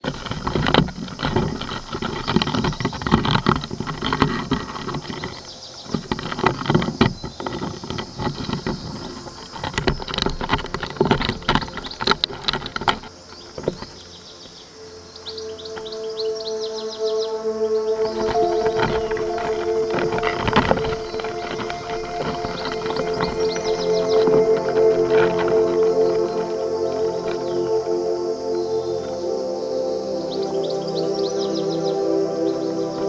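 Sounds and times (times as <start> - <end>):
beetles clacking and scraping: 0.0 - 33.0.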